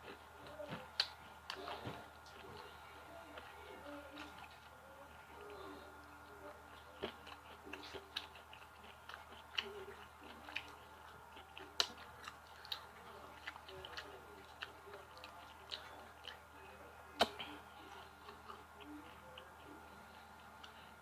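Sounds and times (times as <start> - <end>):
chewing and crunching food: 0.0 - 21.0.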